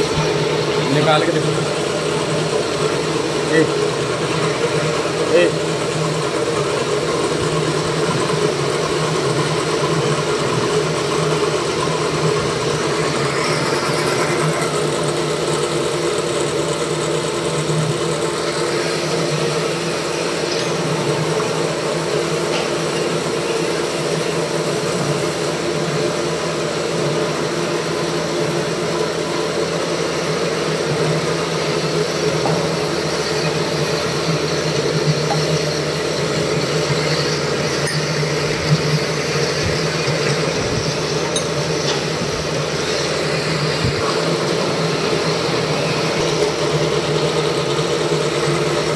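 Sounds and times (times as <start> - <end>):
machine tools humming: 0.0 - 48.9.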